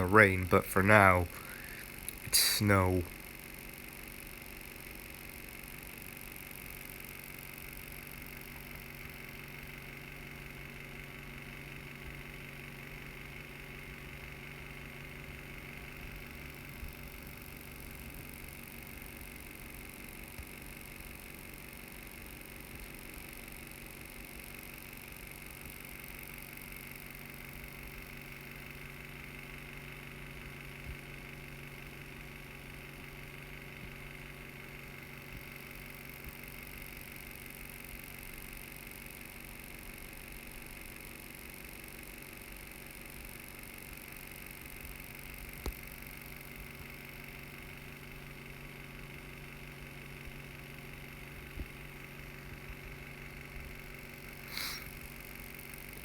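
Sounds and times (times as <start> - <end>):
room tone hum and hiss: 0.0 - 56.0.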